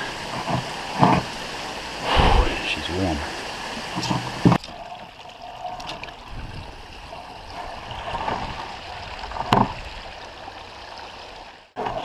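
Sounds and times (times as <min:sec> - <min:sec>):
water trickling over stones: 0:00.0 - 0:02.0, 0:02.7 - 0:12.0.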